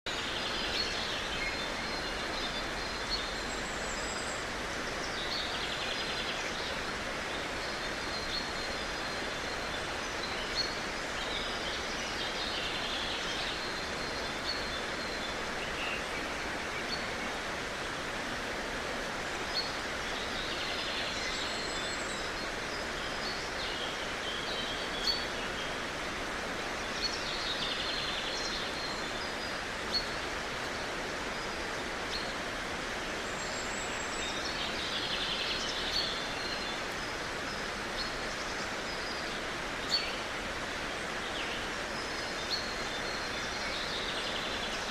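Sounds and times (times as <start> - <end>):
outdoor background hiss: 0.1 - 44.9.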